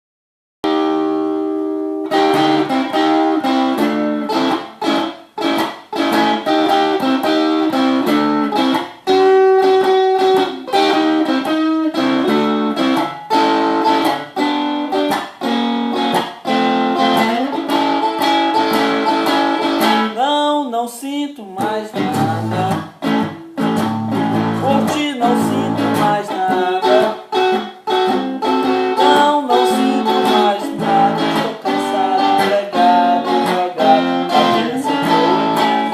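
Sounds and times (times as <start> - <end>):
electric guitar playing blues: 0.6 - 35.9.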